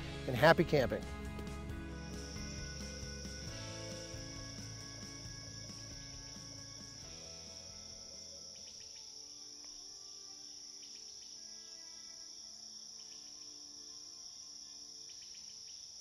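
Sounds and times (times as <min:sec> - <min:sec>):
soft sustained music notes: 0:00.0 - 0:14.9
high-pitched insect chorus: 0:02.0 - 0:16.0.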